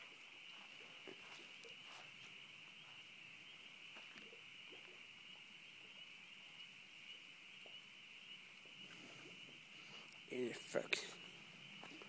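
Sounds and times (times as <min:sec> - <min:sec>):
chorus of calling animals: 0:00.0 - 0:12.0.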